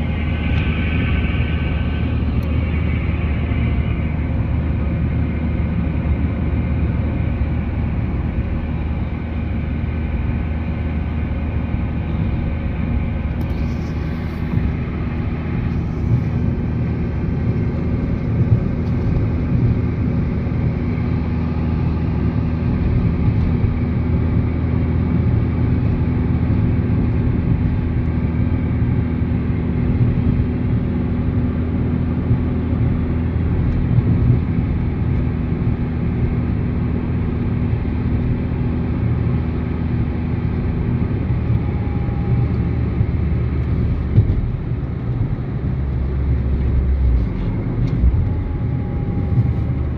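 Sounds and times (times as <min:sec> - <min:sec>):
car engine hum: 0:00.0 - 0:49.9
road and tyre rumble: 0:00.0 - 0:49.9.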